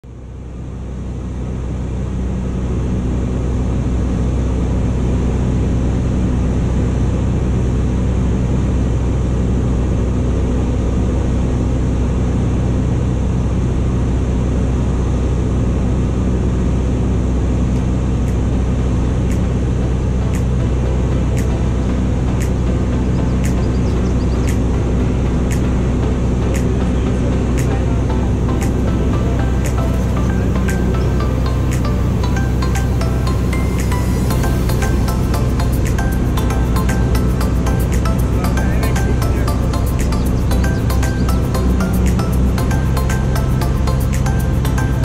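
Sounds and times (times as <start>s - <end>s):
plane engine droning in cabin: 0.0s - 45.0s.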